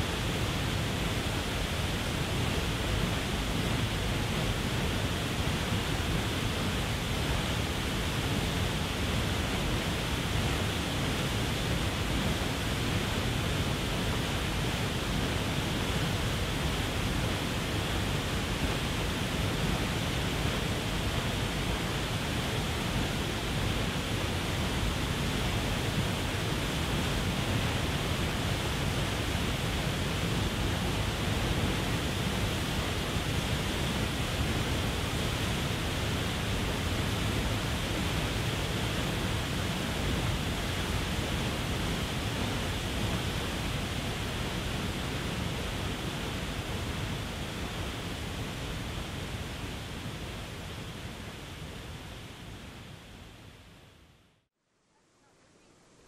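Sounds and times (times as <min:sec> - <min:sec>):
waterfall rushing: 0:00.0 - 0:51.6.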